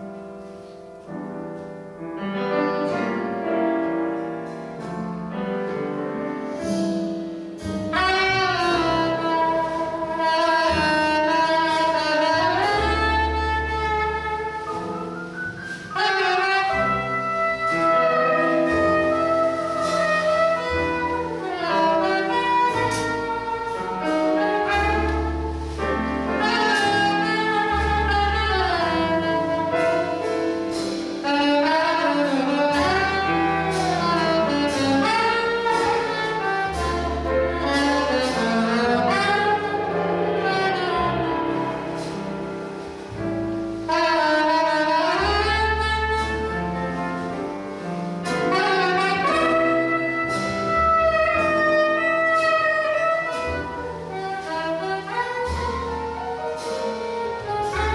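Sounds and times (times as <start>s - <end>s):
piano chords: 0.0s - 57.9s
upright bass walking notes: 0.0s - 57.9s
saxophone melody: 7.6s - 57.9s.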